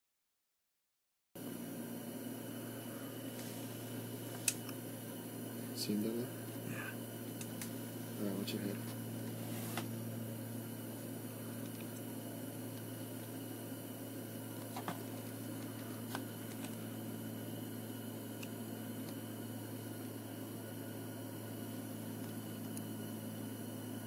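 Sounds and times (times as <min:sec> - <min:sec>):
low hum: 0:01.4 - 0:24.0.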